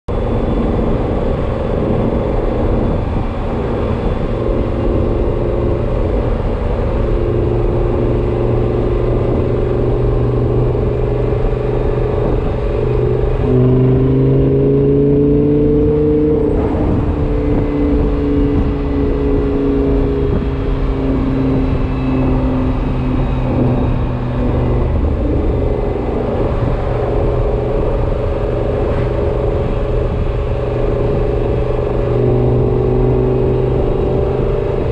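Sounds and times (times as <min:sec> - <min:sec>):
car engine running: 0:00.1 - 0:34.9
high whine: 0:00.1 - 0:34.9.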